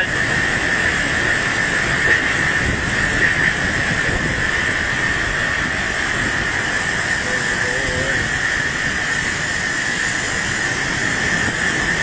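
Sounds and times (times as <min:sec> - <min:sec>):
driving rain: 0:00.0 - 0:12.0
high wind whistle: 0:00.0 - 0:12.0
strong wind rushing: 0:00.2 - 0:12.0.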